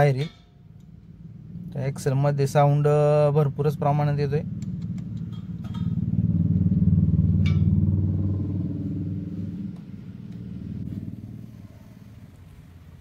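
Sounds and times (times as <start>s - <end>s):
drive shaft low pulsing hum: 0.0s - 12.6s.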